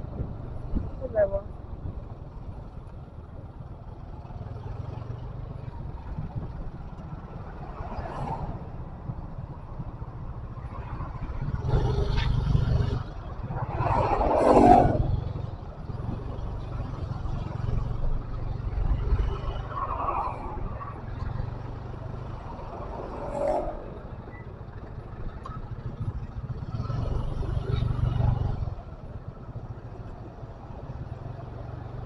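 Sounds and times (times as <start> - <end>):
vehicle engine and road rumble: 0.0 - 32.0.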